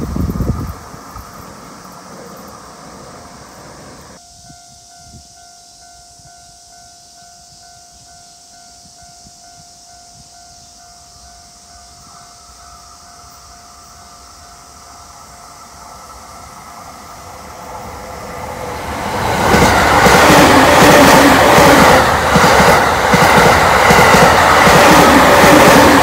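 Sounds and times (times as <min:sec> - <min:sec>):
train rumble: 0:00.0 - 0:06.8, 0:08.8 - 0:26.0.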